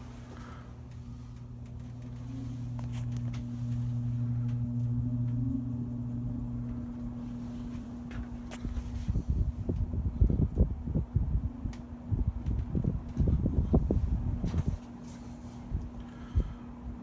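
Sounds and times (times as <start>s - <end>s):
electric fan motor humming: 0.0s - 17.0s.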